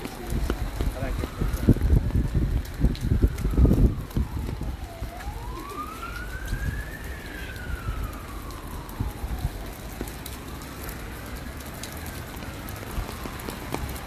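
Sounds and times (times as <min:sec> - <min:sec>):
emergency siren wailing: 0:00.0 - 0:14.0
rain hissing: 0:00.0 - 0:14.0.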